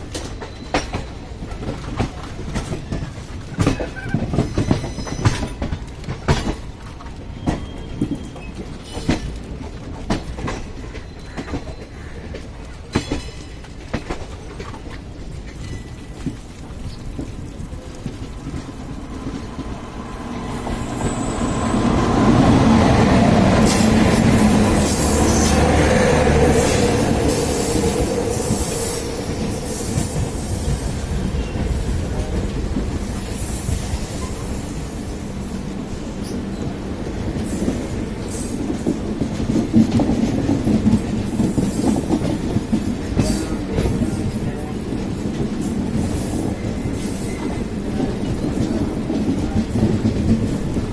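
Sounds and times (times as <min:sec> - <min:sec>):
train rumbling on rails: 0:00.0 - 0:50.9
wheels clicking over track: 0:00.0 - 0:50.9.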